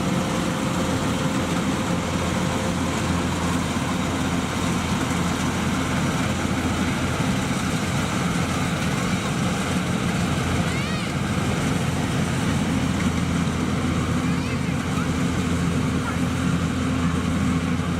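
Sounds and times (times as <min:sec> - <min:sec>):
combine harvester running: 0:00.0 - 0:17.9.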